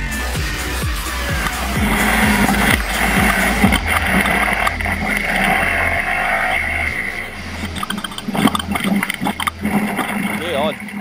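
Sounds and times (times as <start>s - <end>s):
racing buggy engine under load: 0.8s - 10.7s.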